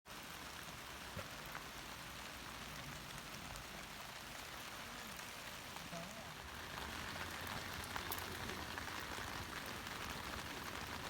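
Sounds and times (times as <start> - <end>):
steady rain falling: 0.1 - 11.0.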